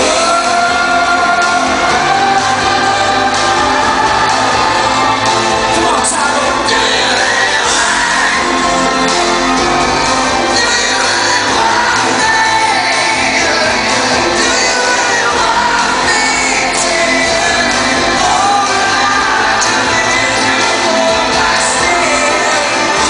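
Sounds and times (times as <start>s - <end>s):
live rock band: 0.0s - 23.0s
sung and shouted vocals: 0.0s - 23.0s.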